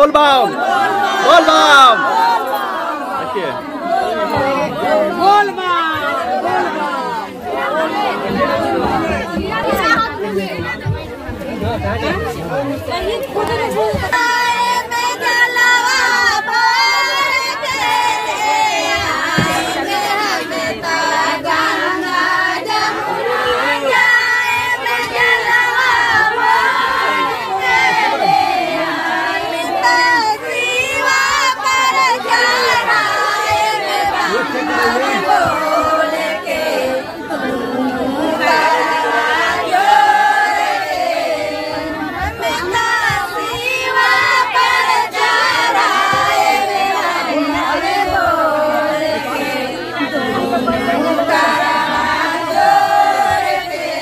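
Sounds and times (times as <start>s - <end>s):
women singing together: 0.0s - 54.0s.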